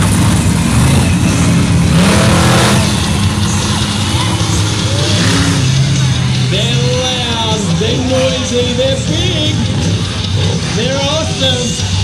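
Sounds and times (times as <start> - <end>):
monster truck engine running: 0.0 - 12.0.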